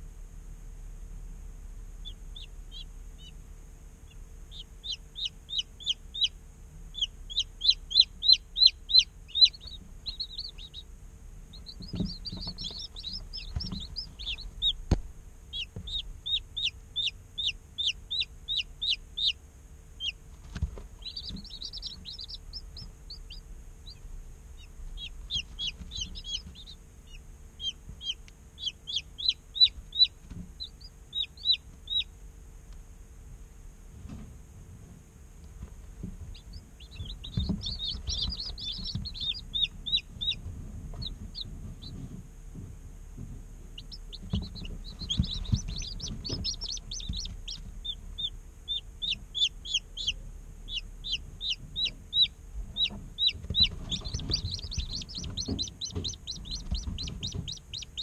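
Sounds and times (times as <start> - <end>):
faint steady hum: 0.0 - 58.0
chicks peeping: 2.0 - 32.8, 35.4 - 58.0.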